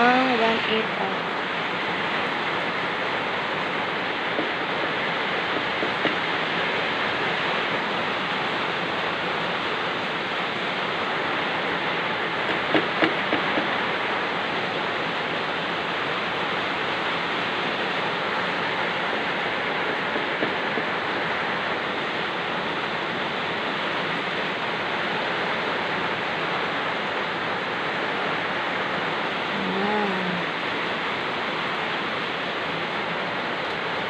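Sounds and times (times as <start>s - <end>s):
heavy rain hiss: 0.0s - 34.0s.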